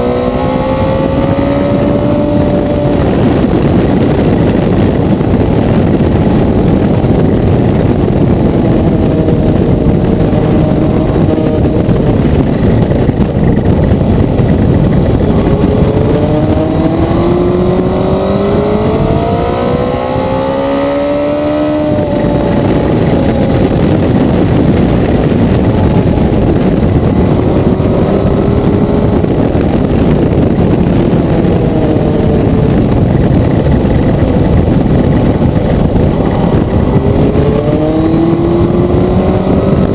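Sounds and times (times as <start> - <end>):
motorcycle engine: 0.0 - 39.9
wind rush over microphone: 0.0 - 39.9.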